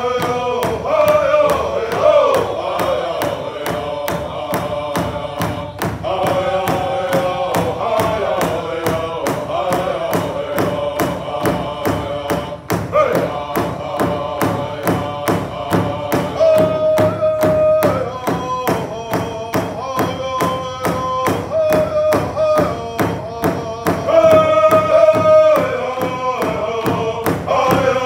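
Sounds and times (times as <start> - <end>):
large drum beating: 0.0 - 28.0
men singing in unison: 0.0 - 28.0.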